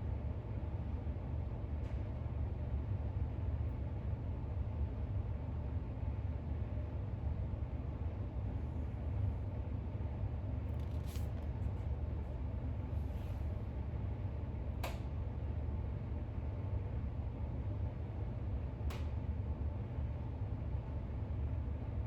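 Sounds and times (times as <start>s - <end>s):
low room rumble: 0.0s - 22.0s.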